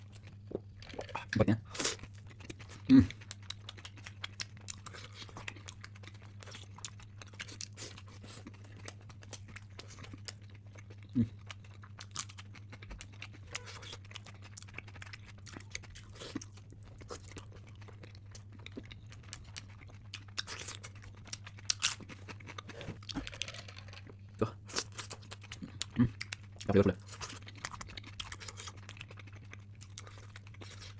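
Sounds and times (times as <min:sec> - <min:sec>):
low electrical hum: 0:00.0 - 0:30.9
mouth chewing and crunching food: 0:00.0 - 0:30.9.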